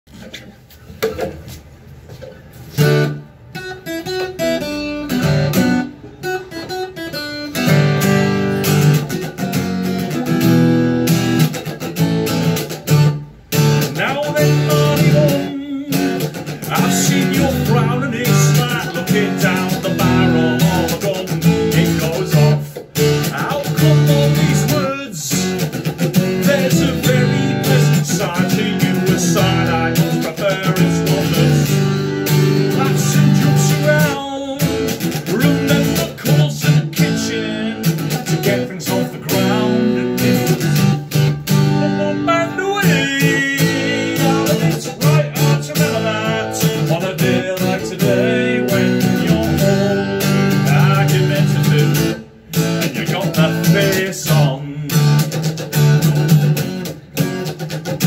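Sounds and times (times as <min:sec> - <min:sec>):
acoustic guitar strumming: 0:01.0 - 0:58.0.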